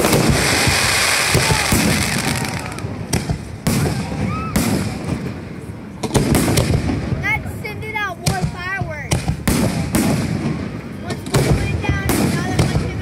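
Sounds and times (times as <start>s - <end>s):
fireworks bursting: 0.0s - 13.0s
hissing crackle of fireworks: 0.0s - 13.0s.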